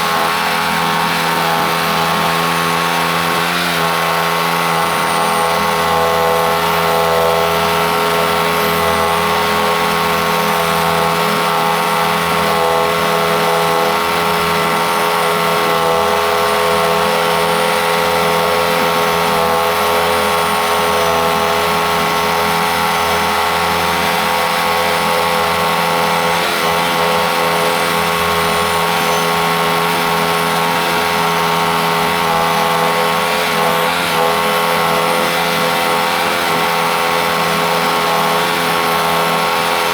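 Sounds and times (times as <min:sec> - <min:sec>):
bandsaw mill engine drone: 0:00.0 - 0:39.9.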